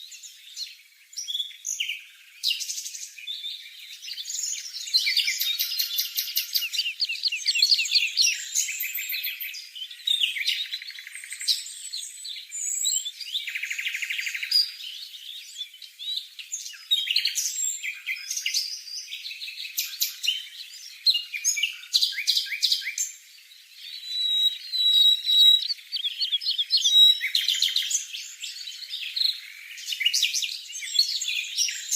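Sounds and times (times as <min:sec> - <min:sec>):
songbird singing: 0:00.0 - 0:31.9.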